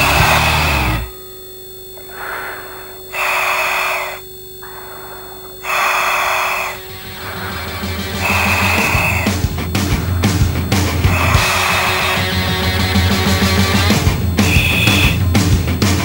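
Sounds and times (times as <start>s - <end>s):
faint steady hum: 0.0s - 16.0s
diver breathing through helmet: 2.0s - 15.2s.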